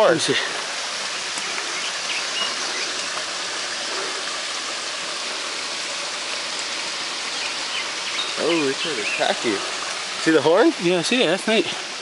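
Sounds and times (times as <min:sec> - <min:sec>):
creek water splashing: 0:00.0 - 0:12.0.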